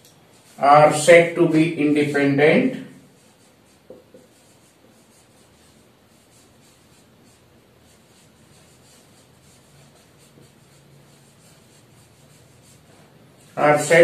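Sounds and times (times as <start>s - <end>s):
marker scratching on whiteboard: 0.2s - 14.0s.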